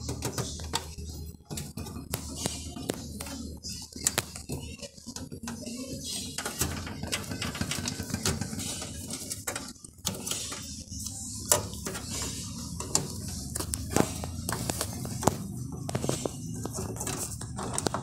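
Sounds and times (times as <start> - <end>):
hands rustling cables: 0.0 - 18.0.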